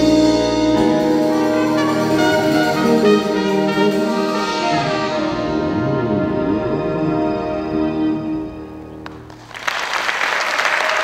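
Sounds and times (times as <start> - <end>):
band and orchestra playing ballad: 0.0 - 9.5.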